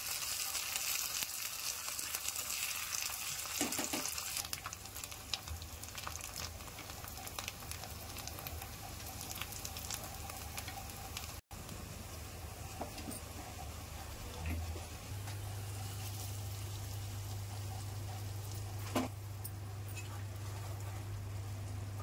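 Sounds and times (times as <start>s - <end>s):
oil sizzling: 0.0s - 19.8s.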